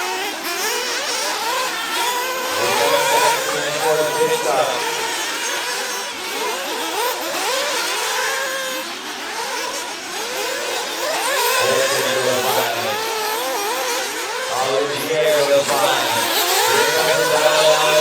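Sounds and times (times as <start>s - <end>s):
model car engines screaming: 0.0s - 18.0s.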